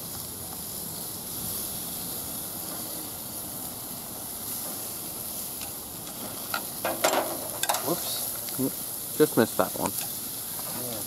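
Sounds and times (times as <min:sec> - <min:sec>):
steaks sizzling on grill: 0:00.0 - 0:11.0.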